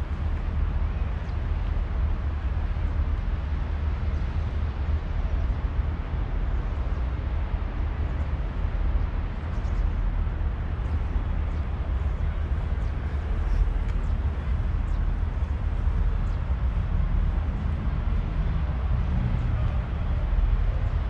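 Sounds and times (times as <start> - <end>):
low city rumble: 0.0 - 21.0.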